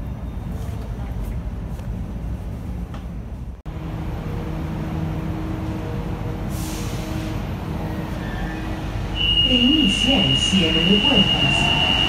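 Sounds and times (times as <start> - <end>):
train equipment hum: 0.0 - 12.0.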